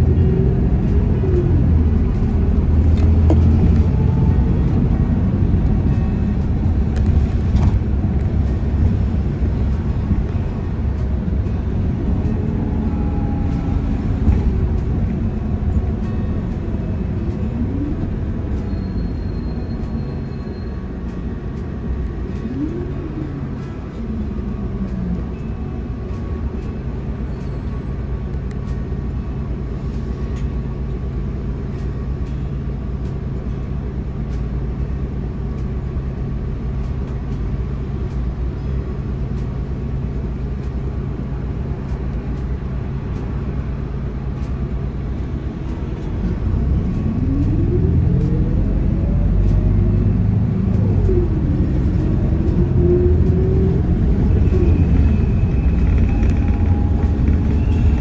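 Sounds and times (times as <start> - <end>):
bus accelerating whine: 0.0 - 58.0
bus engine idling: 0.0 - 58.0.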